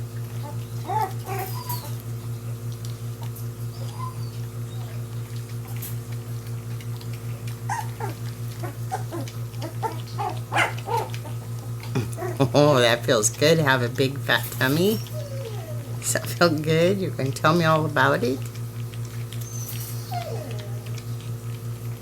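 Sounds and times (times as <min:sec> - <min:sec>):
puppies squeaking and grunting: 0:00.0 - 0:22.0.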